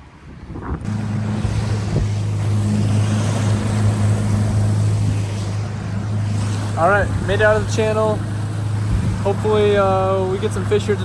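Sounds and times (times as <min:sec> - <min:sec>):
outboard motor droning: 0:00.0 - 0:11.0
waves washing against hull: 0:00.0 - 0:11.0
wind buffeting microphone: 0:00.0 - 0:11.0.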